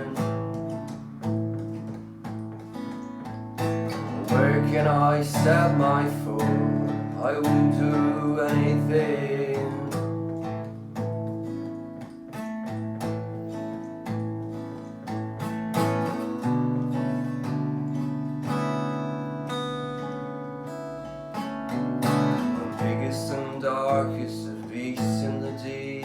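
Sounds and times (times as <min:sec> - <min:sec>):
acoustic guitar playing: 0:00.0 - 0:26.0.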